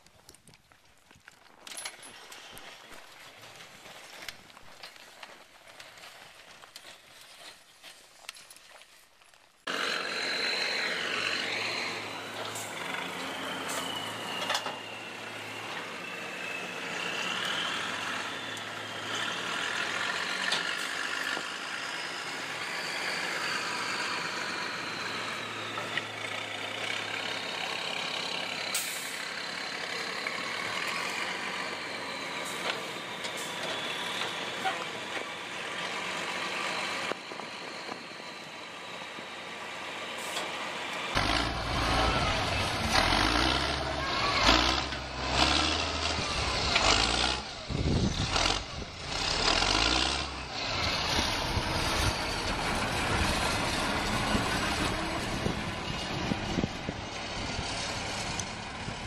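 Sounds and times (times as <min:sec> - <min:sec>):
wheel loader engine: 0:09.6 - 0:59.0
truck engine running: 0:09.7 - 0:59.0.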